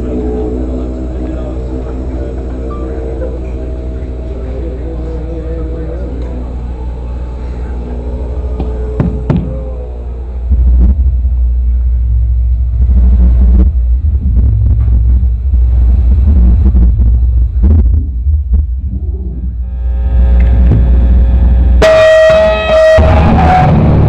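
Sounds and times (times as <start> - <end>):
deep bass rumble from live band: 0.0 - 24.0.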